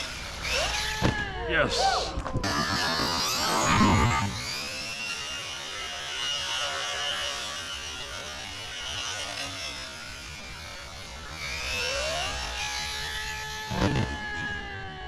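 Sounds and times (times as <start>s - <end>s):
electric toy car motor whine: 0.0s - 15.0s.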